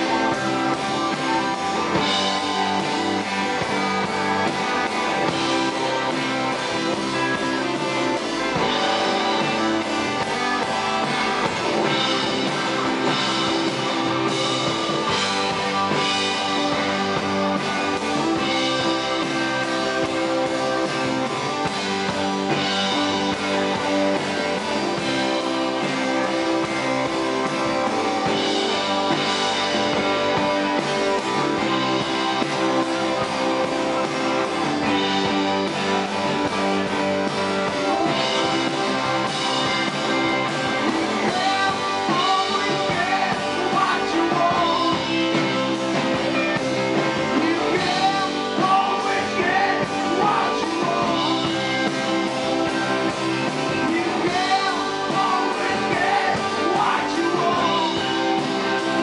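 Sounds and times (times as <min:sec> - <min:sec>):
electric guitar lead: 0:00.0 - 0:59.0
live rock band playing: 0:00.0 - 0:59.0.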